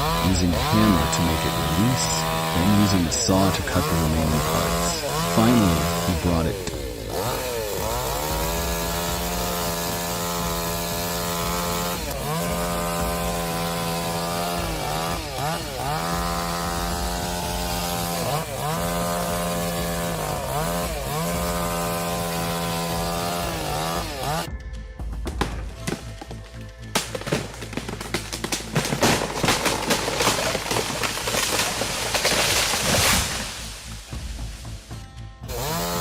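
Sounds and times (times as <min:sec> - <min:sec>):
chainsaw cutting at full throttle: 0:00.0 - 0:24.5, 0:25.8 - 0:36.0.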